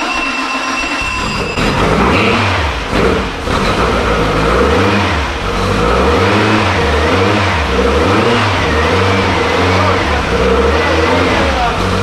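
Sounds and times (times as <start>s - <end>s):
engine revving: 0.5s - 12.0s.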